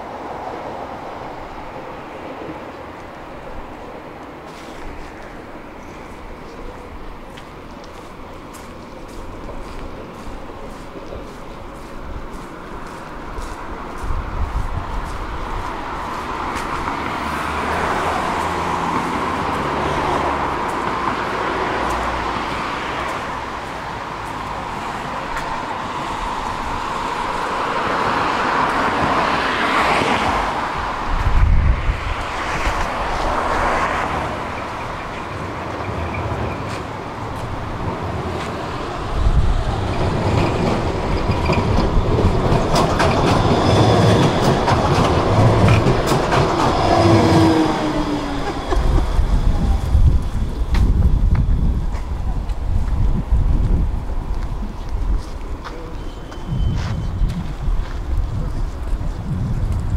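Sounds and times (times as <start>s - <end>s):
street noise: 0.0s - 59.9s
tram passing on street track: 0.0s - 59.9s.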